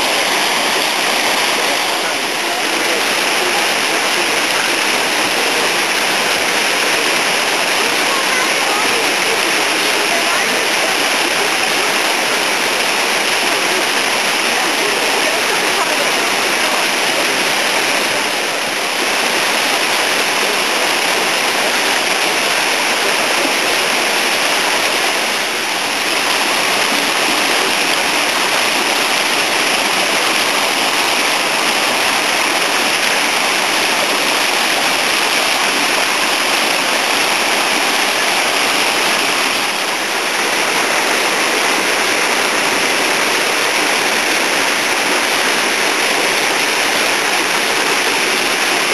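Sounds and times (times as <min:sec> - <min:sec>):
water rushing and splashing: 0:00.0 - 0:48.9.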